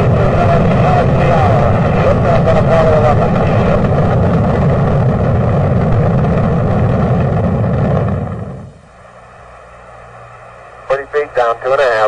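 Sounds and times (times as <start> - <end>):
faint steady hum: 0.0 - 12.0
rocket engines roaring: 0.0 - 12.0.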